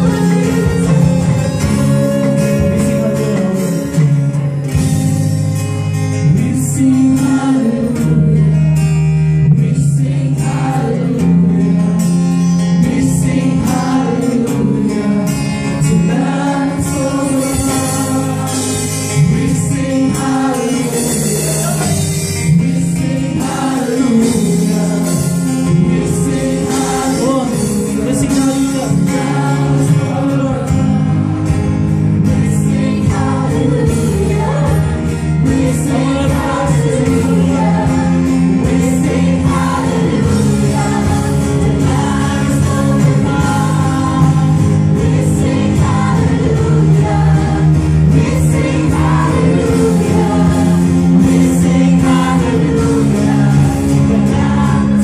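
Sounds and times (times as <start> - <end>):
singers singing together: 0.0 - 5.1, 6.1 - 55.0
amplified guitars: 0.0 - 55.0
drums: 0.0 - 55.0.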